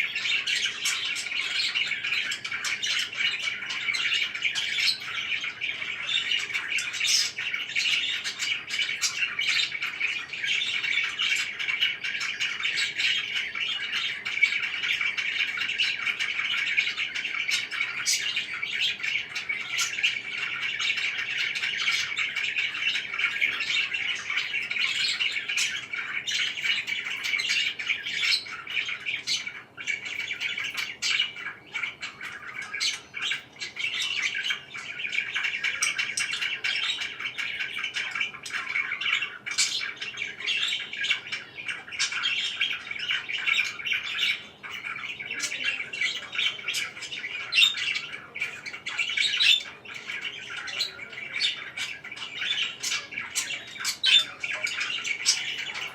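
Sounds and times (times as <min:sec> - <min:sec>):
parakeets chirping: 0:00.0 - 0:55.9.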